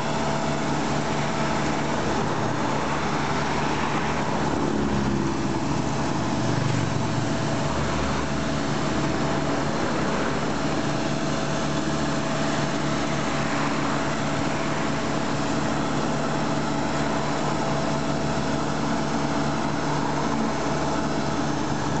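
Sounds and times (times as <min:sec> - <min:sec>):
machine engine humming: 0:00.0 - 0:22.0.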